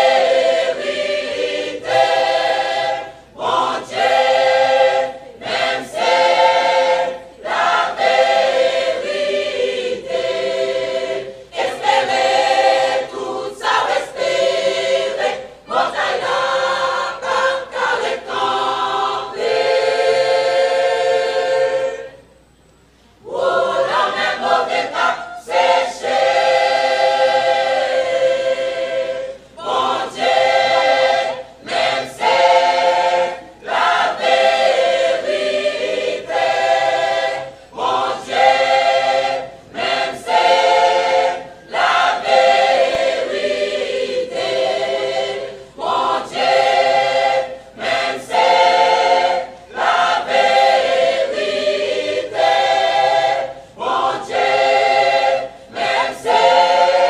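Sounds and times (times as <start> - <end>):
choir singing a hymn: 0.0 - 22.5, 23.2 - 57.0.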